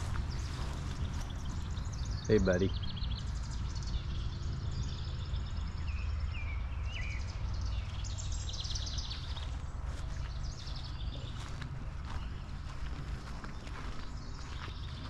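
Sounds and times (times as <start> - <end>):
songbirds chirping and trilling: 0.0 - 15.0
steady low rumble: 0.0 - 15.0.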